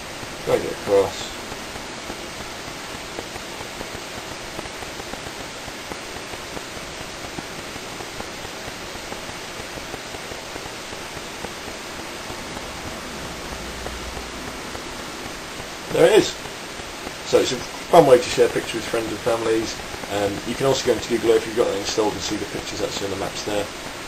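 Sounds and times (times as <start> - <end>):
recording noise hiss: 0.0 - 24.0.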